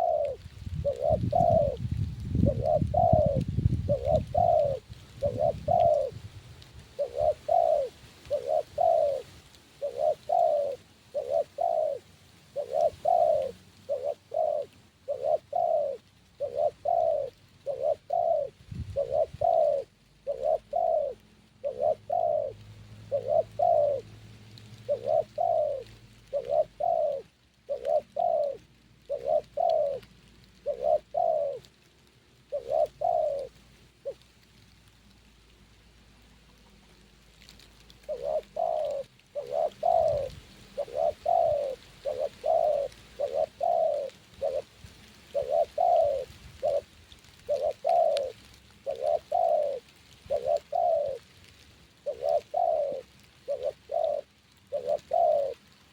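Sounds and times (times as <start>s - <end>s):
dove cooing: 0.0s - 31.8s, 32.4s - 34.3s, 37.4s - 55.9s.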